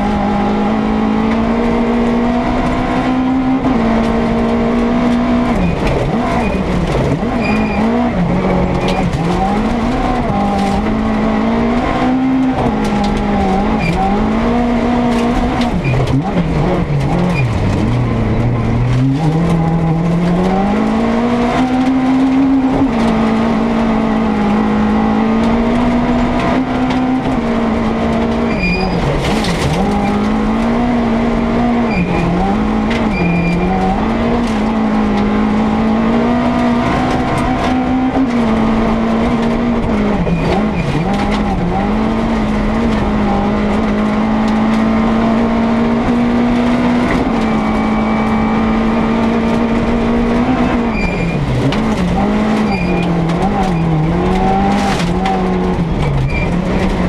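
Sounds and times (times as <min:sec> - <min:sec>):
rally car engine at high revs: 0:00.0 - 0:57.0.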